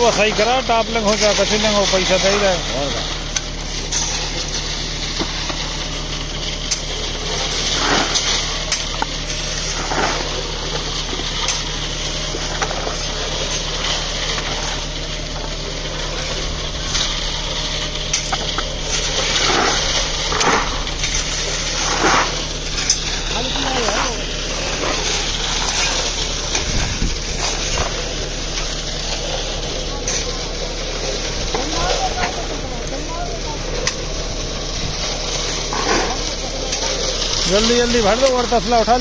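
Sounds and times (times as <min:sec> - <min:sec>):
concrete scrapes and knocks: 0:00.0 - 0:39.0
machine engine humming: 0:00.0 - 0:39.0.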